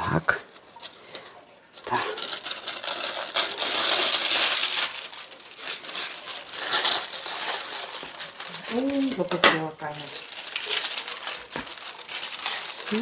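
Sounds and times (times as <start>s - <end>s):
plastic sleeve crinkling: 0.0s - 13.0s
scissors cutting plastic: 1.8s - 13.0s.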